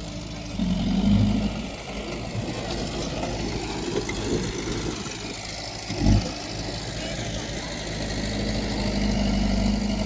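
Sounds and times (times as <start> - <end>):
heavy machinery diesel engine: 0.0 - 10.0.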